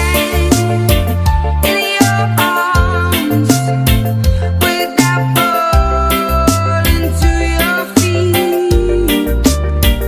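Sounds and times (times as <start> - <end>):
reggae dance music: 0.0 - 10.0.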